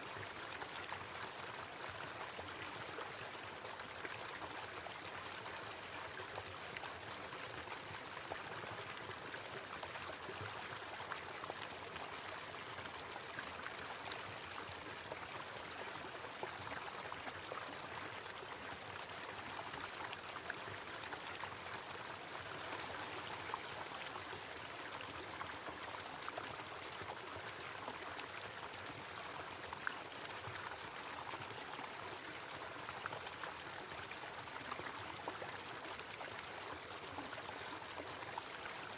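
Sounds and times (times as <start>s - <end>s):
small waterfall pouring into stream: 0.0s - 38.9s.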